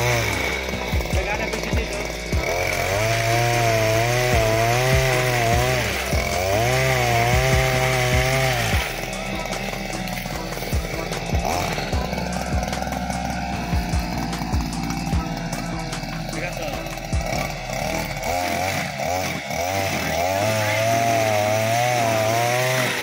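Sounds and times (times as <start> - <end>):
small two-stroke engine running: 0.0 - 23.0.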